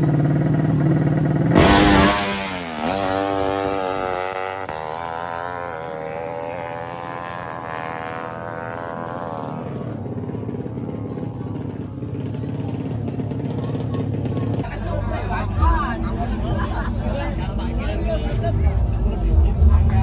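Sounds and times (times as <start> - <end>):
motorcycle accelerating at full throttle: 0.0 - 20.0.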